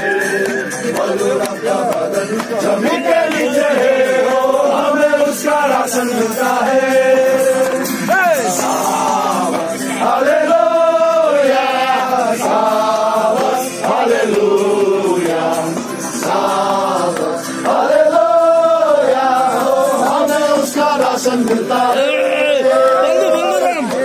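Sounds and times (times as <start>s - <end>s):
chanted vocal line: 0.0s - 24.0s.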